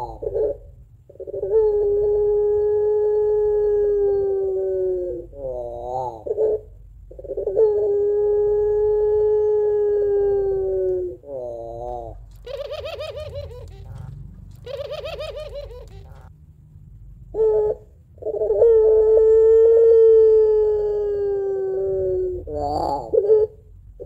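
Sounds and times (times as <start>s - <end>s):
dove cooing: 0.0s - 16.3s, 17.3s - 24.0s.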